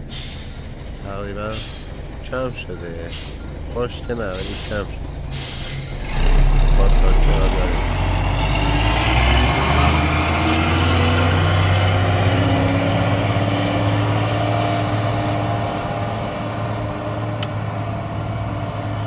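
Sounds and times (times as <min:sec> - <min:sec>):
truck engine driving off: 0:00.0 - 0:19.0.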